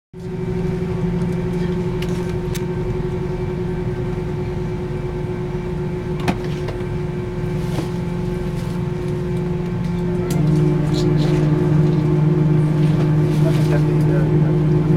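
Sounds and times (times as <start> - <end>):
airliner cabin drone: 0.2 - 14.9.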